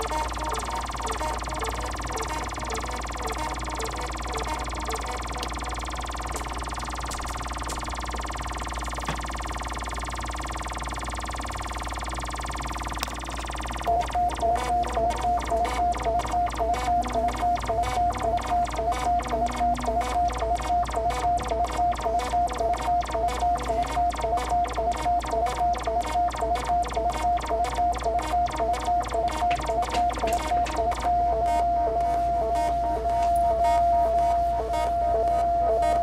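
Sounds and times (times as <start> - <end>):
buzzy synth drone: 0.0 - 36.0
short electronic synth beeps: 0.0 - 36.0
steady held synth tone: 0.0 - 36.0.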